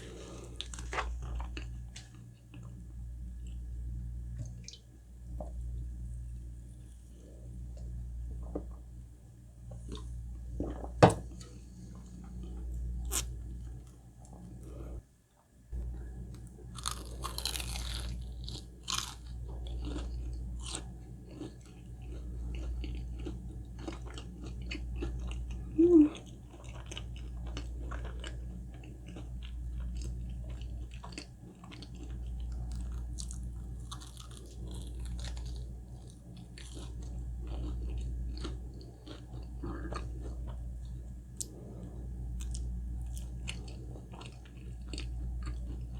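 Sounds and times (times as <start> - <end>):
chewing and crunching: 0.0 - 3.7, 9.7 - 15.0, 15.8 - 45.9
steady low hum: 0.0 - 45.9.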